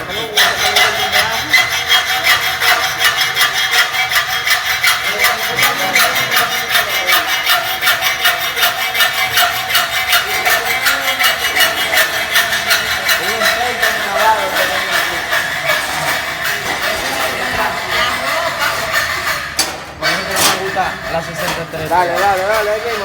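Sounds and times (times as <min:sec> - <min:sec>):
fast even scraping: 0:00.0 - 0:23.0.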